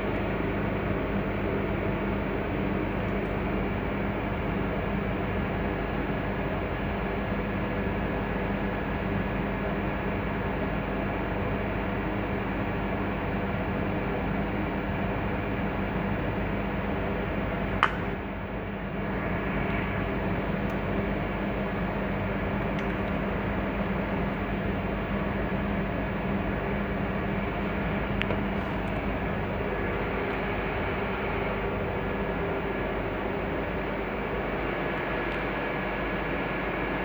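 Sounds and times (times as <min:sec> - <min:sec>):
steady hum and hiss: 0:00.0 - 0:37.0.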